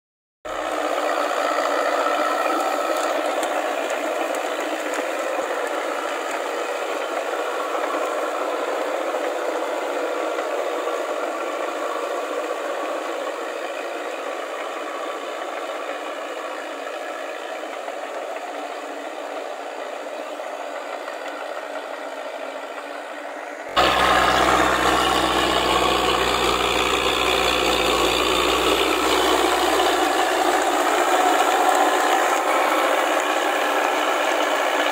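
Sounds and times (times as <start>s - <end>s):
tracks and tiller rattling: 0.5s - 34.9s
tractor engine running: 0.5s - 34.9s.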